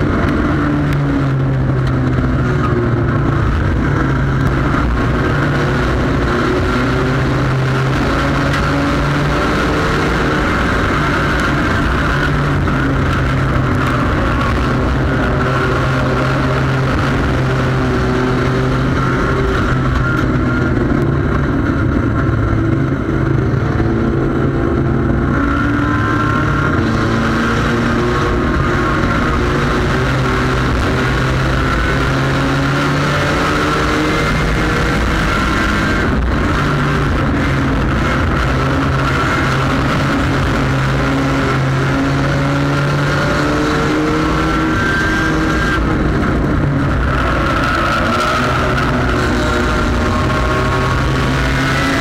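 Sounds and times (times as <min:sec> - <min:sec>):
race car engine running hard: 0:00.0 - 0:52.0
wind and road noise: 0:00.0 - 0:52.0.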